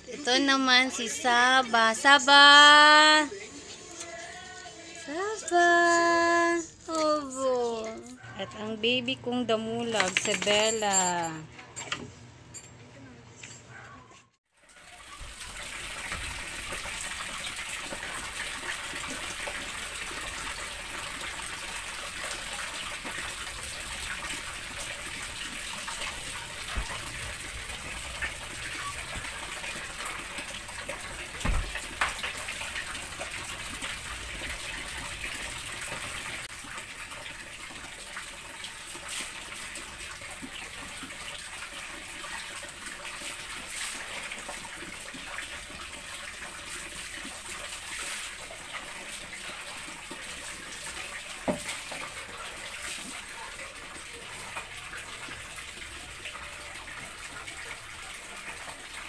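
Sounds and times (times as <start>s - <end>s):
water running: 0.0s - 11.5s, 14.6s - 59.0s.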